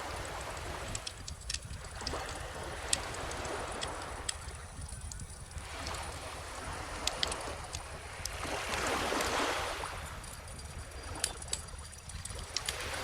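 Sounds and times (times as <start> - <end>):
bonfire crackling and popping: 0.0 - 9.4, 10.4 - 13.0
ocean wave washing: 0.0 - 13.0.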